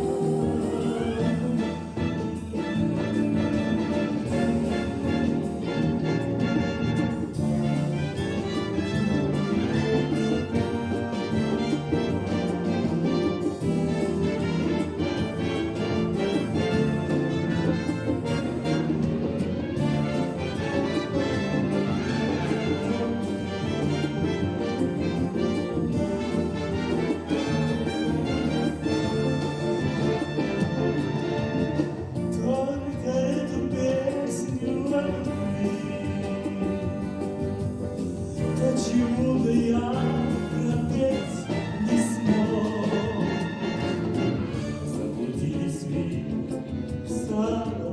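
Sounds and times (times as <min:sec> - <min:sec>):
brass band playing: 0:00.0 - 0:47.9.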